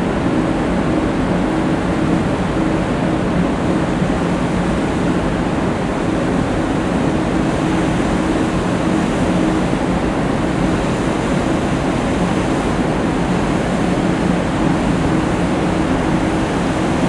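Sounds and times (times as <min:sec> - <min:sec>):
low engine hum: 0:00.0 - 0:17.0
water rushing in ship wake: 0:00.0 - 0:17.0.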